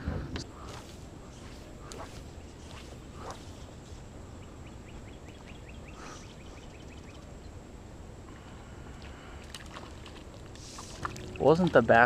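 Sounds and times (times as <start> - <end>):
outdoor ambience: 0.0 - 12.0.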